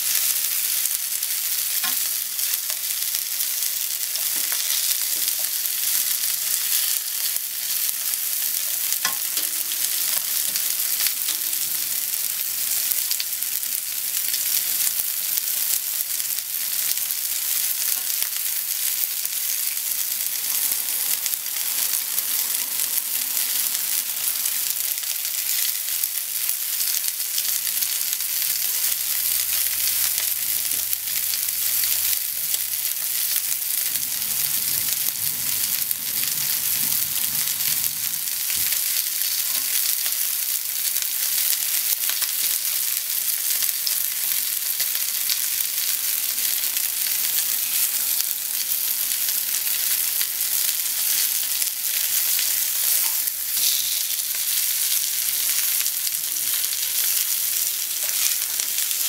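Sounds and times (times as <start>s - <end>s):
meat and onion sizzling in oil: 0.0s - 59.0s.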